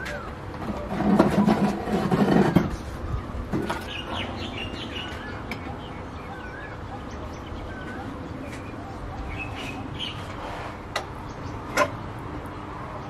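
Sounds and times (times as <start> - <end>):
birds chirping: 2.3 - 13.0.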